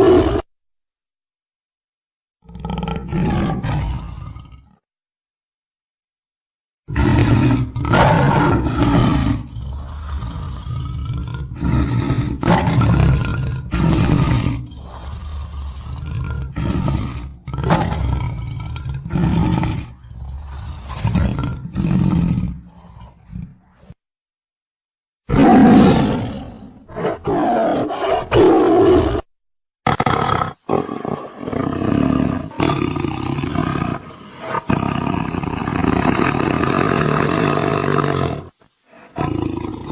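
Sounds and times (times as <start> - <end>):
tiger roaring: 0.0 - 0.5, 2.4 - 4.8, 6.9 - 24.0, 25.3 - 39.9.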